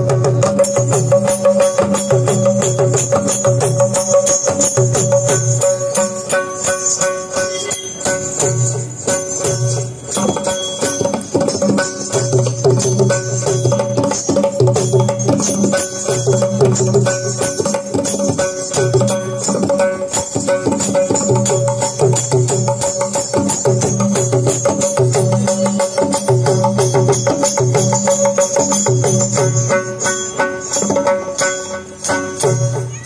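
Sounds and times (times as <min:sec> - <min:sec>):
instrumental music with percussion beat: 0:00.0 - 0:33.0
jingles: 0:00.0 - 0:33.0.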